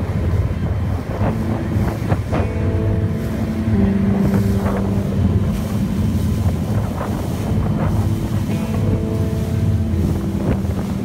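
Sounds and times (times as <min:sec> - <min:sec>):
ferry engine rumble: 0:00.0 - 0:11.0
water rushing past: 0:00.0 - 0:11.0
wind buffeting microphone: 0:00.0 - 0:11.0
held tones: 0:01.1 - 0:11.0.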